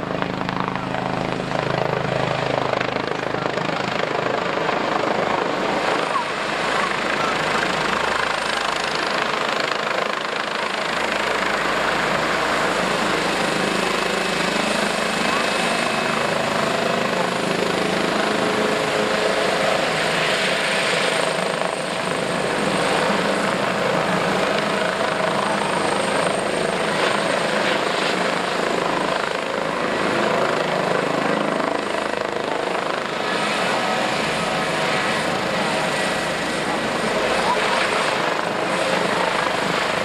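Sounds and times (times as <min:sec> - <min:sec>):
helicopter rotor and turbine noise: 0:00.0 - 0:40.0.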